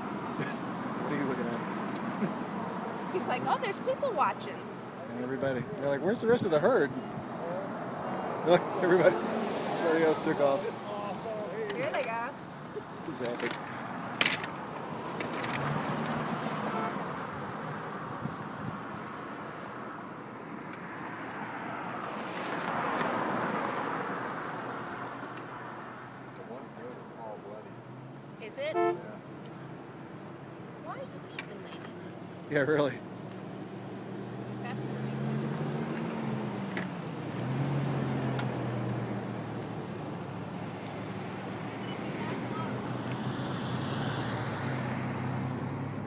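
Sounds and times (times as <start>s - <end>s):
vehicle passing by: 0.0s - 30.2s, 30.8s - 46.0s
road traffic: 0.0s - 46.0s.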